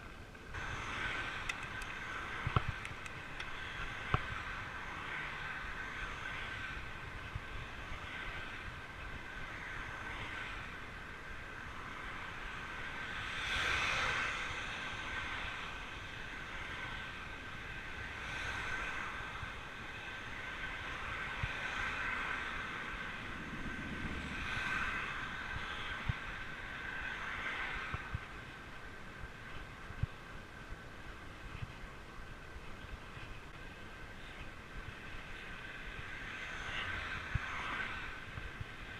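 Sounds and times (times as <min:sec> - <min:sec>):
bike tyres rolling on asphalt: 0:00.0 - 0:38.9
constant high hum: 0:00.0 - 0:38.9
wind noise: 0:00.0 - 0:38.9
cars passing: 0:00.4 - 0:31.7, 0:32.6 - 0:38.9.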